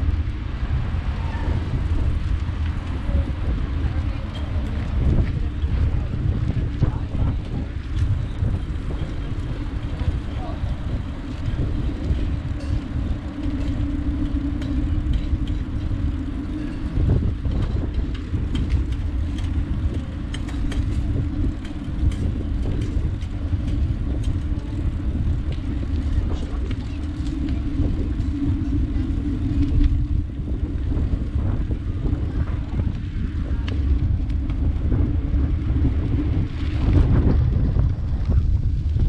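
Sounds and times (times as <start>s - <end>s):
hum: 0.0s - 39.0s
tyres rolling on asphalt: 0.0s - 39.0s
wind on microphone: 0.0s - 39.0s
small clicks and rattles: 2.2s - 39.0s.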